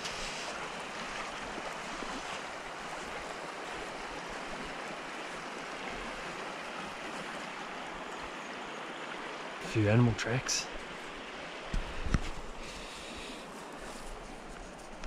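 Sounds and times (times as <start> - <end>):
river rushing over shingle: 0.0 - 15.0.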